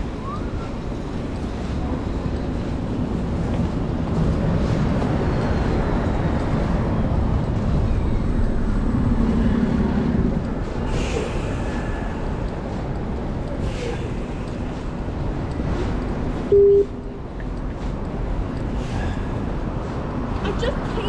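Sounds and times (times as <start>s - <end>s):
engine hum: 0.0s - 21.0s
passing vehicles rumbling: 0.0s - 21.0s.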